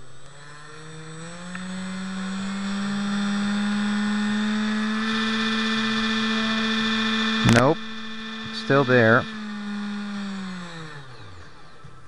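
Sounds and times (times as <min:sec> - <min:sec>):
electric motor whine: 0:00.0 - 0:12.0
motor vibrating: 0:00.0 - 0:12.0.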